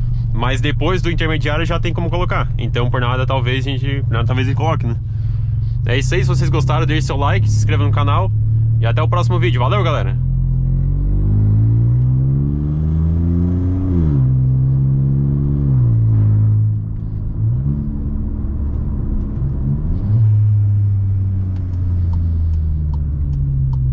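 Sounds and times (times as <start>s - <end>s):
car engine revving loudly: 0.4s - 23.8s.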